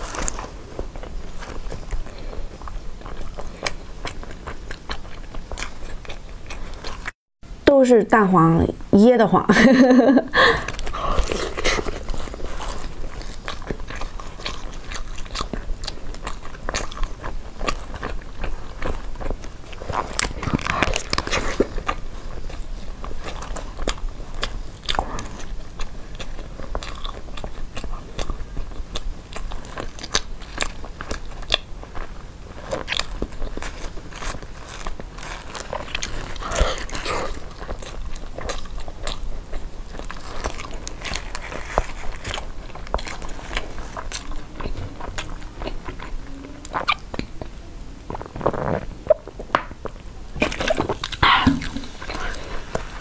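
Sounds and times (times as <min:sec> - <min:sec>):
sticky chewing and mouth clicks: 0:00.0 - 0:07.2, 0:10.7 - 0:52.9.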